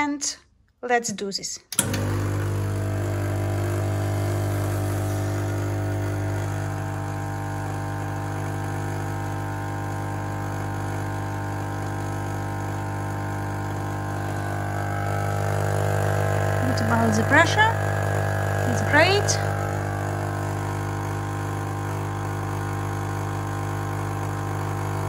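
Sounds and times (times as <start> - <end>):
espresso machine pump buzzing: 1.8 - 25.0.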